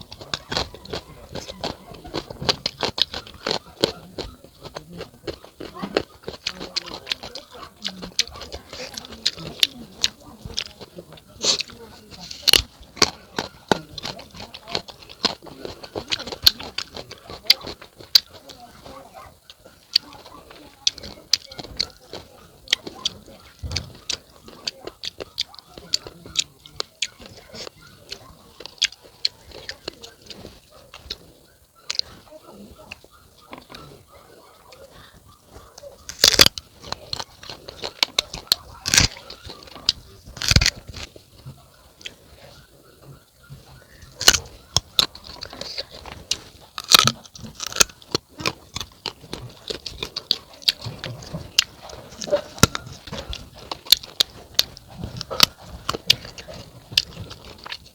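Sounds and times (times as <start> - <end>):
chewing crisp fruit crunches: 0.0 - 57.9.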